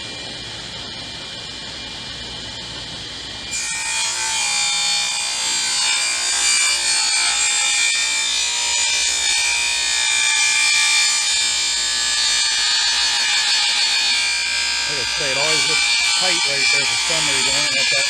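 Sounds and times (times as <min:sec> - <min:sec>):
table saw high whine: 0:00.0 - 0:18.0.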